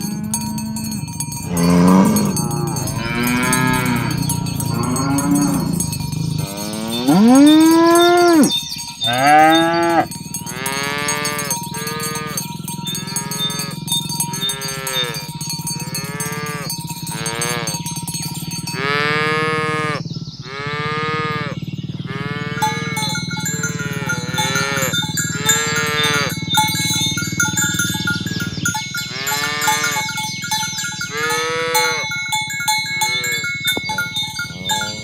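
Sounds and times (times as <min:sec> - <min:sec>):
cows mooing: 0:00.0 - 0:35.0.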